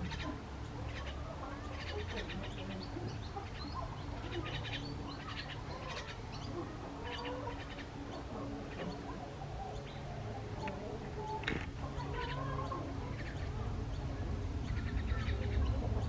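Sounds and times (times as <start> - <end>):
birds chirping in rapid trills: 0.0 - 16.0
chickens calling: 0.0 - 16.0.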